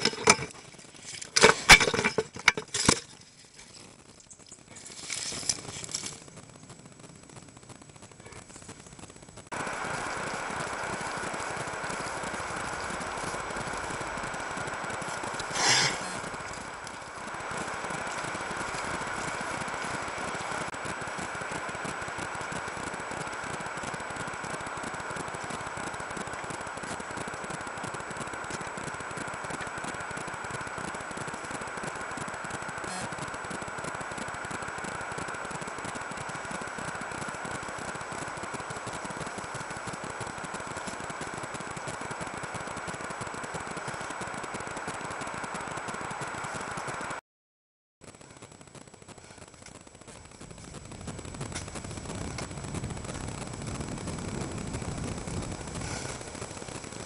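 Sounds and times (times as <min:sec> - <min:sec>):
constant electronic tone: 0:00.0 - 0:47.2, 0:48.0 - 0:57.0
electronic hiss and hum: 0:00.0 - 0:47.2, 0:48.0 - 0:57.0.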